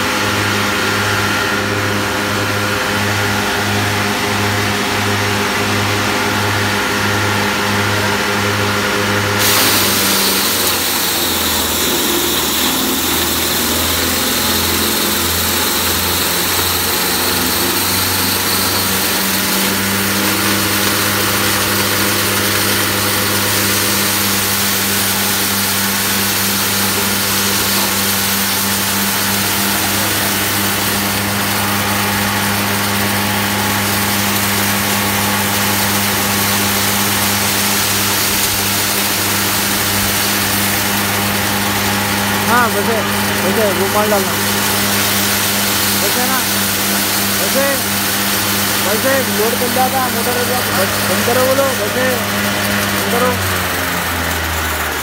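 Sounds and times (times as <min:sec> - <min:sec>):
dryer motor humming: 0:00.0 - 0:55.0
rushing blower air: 0:00.0 - 0:55.0.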